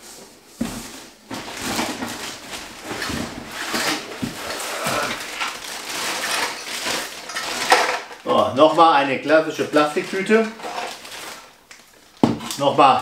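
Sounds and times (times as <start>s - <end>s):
cardboard rustling: 0.0s - 12.5s
plastic bag crinkling: 1.3s - 13.0s.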